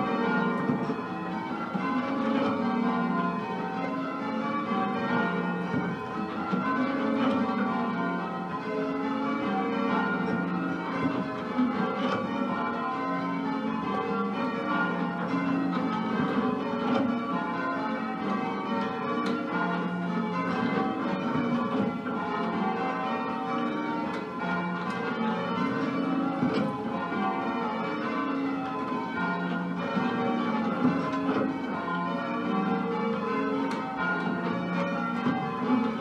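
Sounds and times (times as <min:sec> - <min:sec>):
church bells change ringing: 0:00.0 - 0:36.0.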